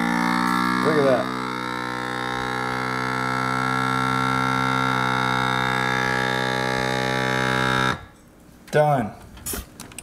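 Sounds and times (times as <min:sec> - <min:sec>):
vacuum sealer pump humming: 0:00.0 - 0:08.2.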